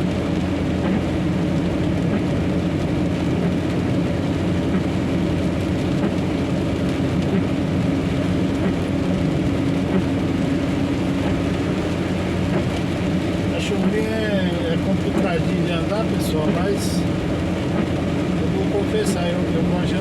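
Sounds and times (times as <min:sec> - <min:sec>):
truck engine and tyre noise: 0:00.0 - 0:20.0.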